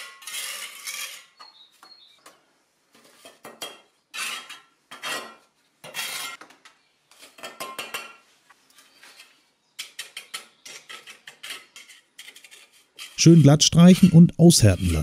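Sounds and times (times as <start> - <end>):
trowel scraping and clinking on concrete: 0.0 - 2.0, 3.0 - 6.5, 7.1 - 15.0.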